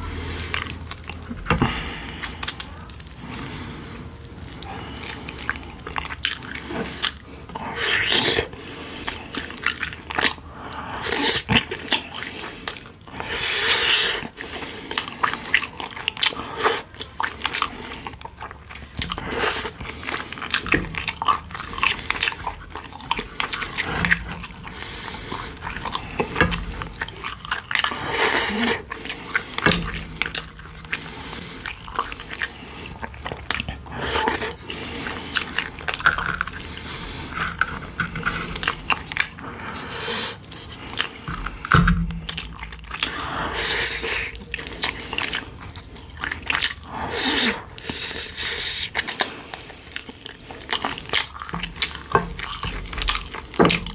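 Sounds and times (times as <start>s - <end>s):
chewing and mouth smacks: 0.0s - 53.9s.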